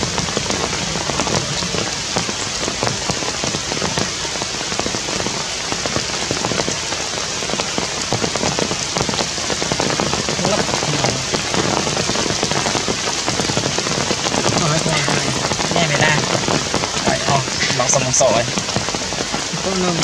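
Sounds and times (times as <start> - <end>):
steady rain patter: 0.0 - 20.0.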